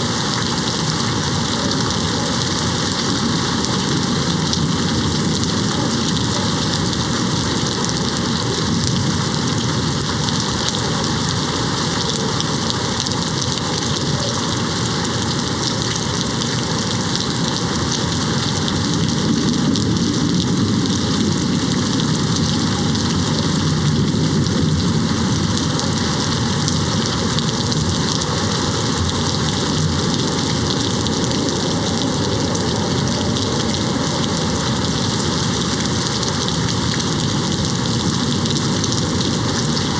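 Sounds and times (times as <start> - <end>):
rain on window glass: 0.0 - 39.9.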